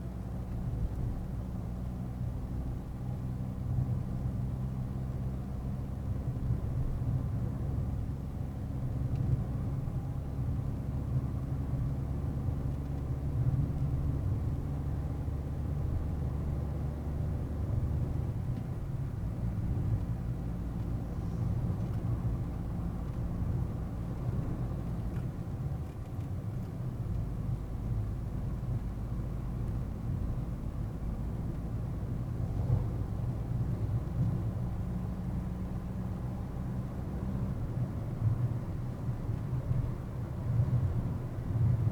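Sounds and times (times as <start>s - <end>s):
road rumble inside car: 0.0s - 41.9s.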